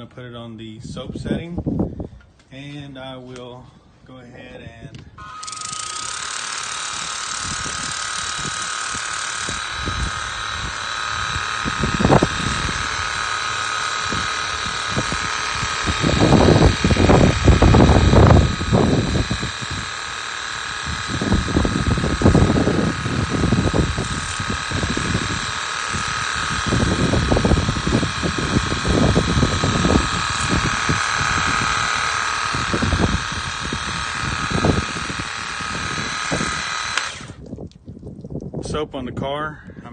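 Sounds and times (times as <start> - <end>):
pressure washer pump whine: 4.9 - 37.8.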